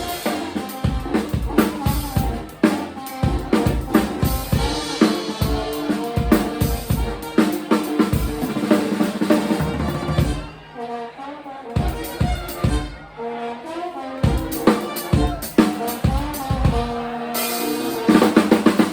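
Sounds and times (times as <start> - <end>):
drum kit beat: 0.0 - 10.7, 11.8 - 13.0, 14.2 - 18.9
live band playing: 0.0 - 18.9.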